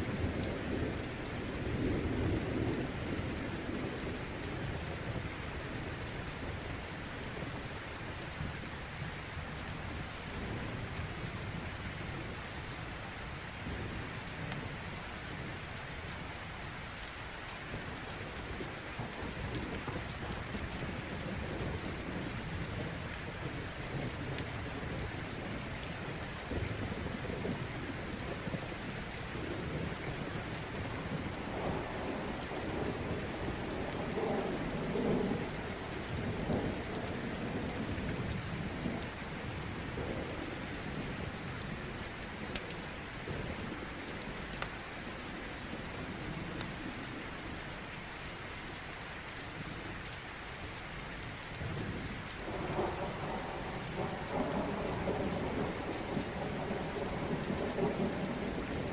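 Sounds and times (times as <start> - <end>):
low rumble of thunder: 0.0 - 15.6, 17.6 - 47.6, 51.6 - 58.9
steady rain: 0.0 - 58.9.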